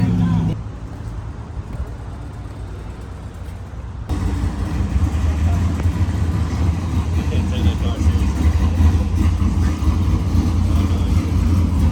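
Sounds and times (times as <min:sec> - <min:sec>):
car engine idling: 0:00.0 - 0:00.6, 0:02.6 - 0:11.9.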